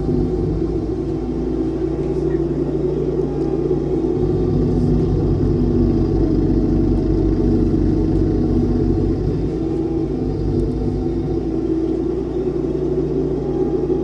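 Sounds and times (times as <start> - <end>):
tractor engine rumbling under load: 0.0 - 14.0.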